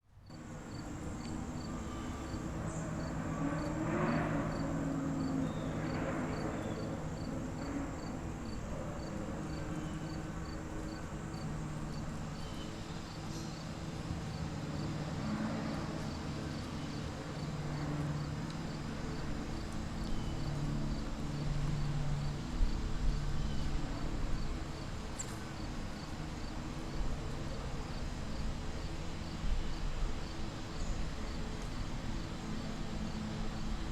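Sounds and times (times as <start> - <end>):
continuous high buzz: 0.1 - 33.9.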